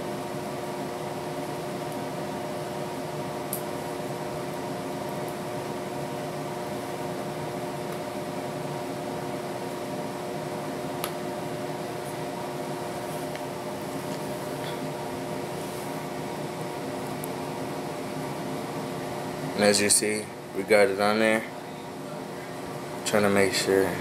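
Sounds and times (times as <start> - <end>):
household appliance humming: 0.0 - 24.0.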